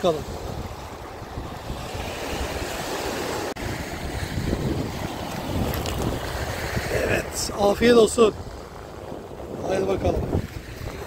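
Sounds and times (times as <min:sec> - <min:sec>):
surf on pebble shore: 0:00.0 - 0:11.0
wind buffeting microphone: 0:00.0 - 0:11.0.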